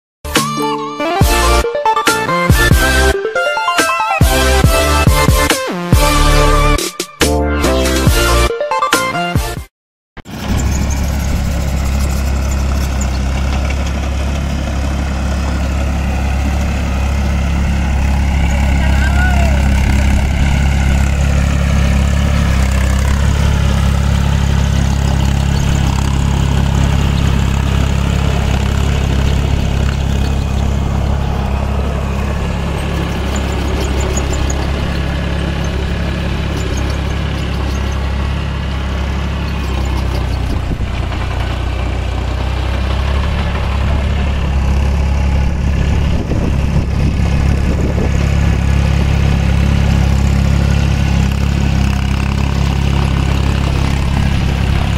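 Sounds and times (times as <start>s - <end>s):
tractor diesel engine running: 0.3s - 6.8s, 10.2s - 54.9s.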